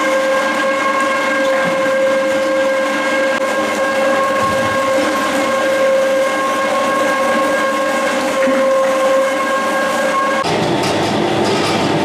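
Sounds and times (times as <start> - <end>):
electric meat mincer whining: 0.0 - 12.0.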